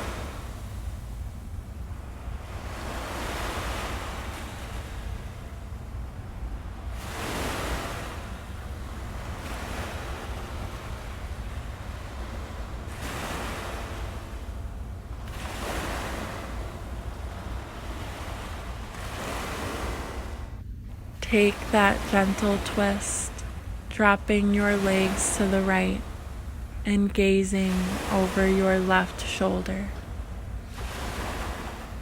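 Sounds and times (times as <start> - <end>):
ocean waves washing on shore: 0.0 - 32.0.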